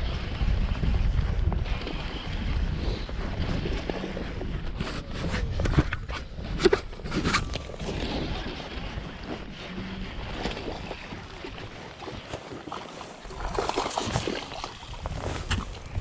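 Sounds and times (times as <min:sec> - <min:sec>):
wind buffeting microphone: 0:00.0 - 0:12.3, 0:13.2 - 0:16.0.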